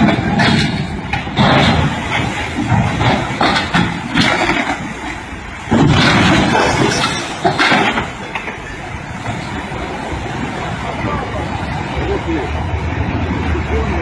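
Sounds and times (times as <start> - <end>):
boats knocking together: 0.0 - 13.6
floodwater rushing: 0.0 - 14.0.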